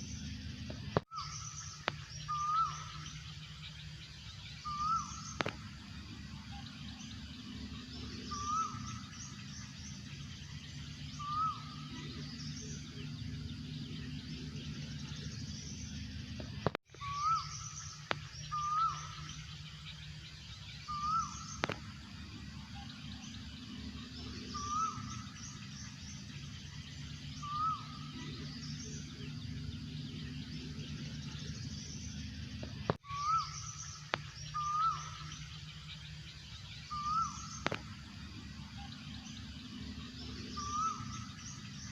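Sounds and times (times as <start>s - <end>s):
small birds chirping faintly: 0.0s - 41.9s.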